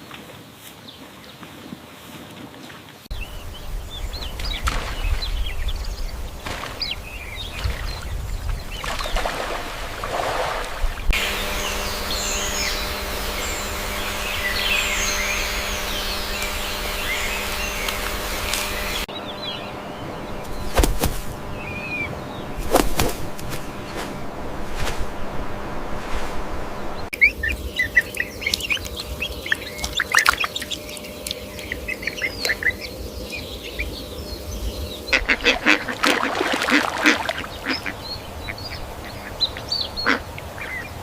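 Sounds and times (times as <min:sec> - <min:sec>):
outdoor background noise: 0:00.0 - 0:41.0
small birds chirping: 0:03.1 - 0:09.7, 0:10.8 - 0:25.0, 0:26.7 - 0:41.0.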